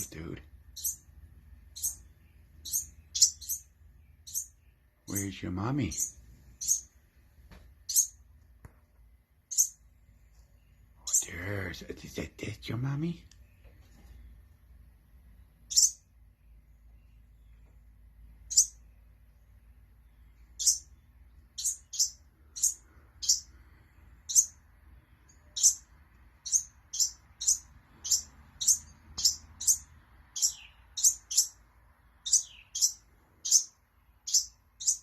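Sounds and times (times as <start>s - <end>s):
small bird chirping: 0.0s - 35.0s.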